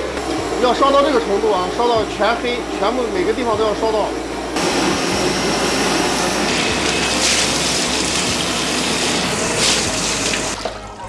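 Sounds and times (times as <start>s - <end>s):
water churning in washing machine: 0.0s - 11.0s.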